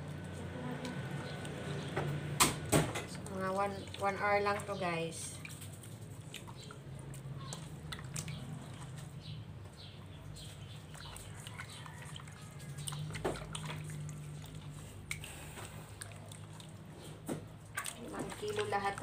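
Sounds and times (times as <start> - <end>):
wet clicks and squelches of meat: 0.0 - 19.0.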